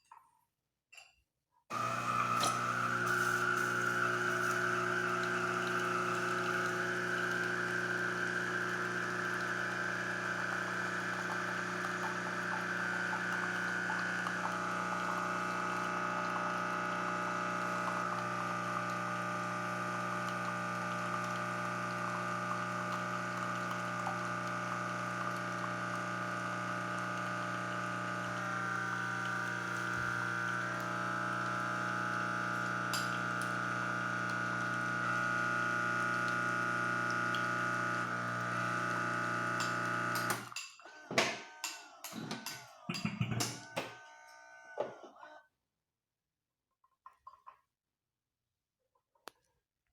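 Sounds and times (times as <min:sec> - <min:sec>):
coffee machine pump humming: 0:01.7 - 0:45.2.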